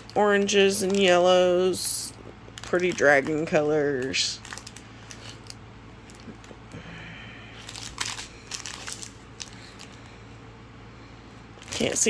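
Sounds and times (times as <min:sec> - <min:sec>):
plastic packaging crinkling: 0:00.0 - 0:06.7, 0:07.5 - 0:10.1, 0:11.6 - 0:12.0
faint low hum: 0:00.0 - 0:12.0.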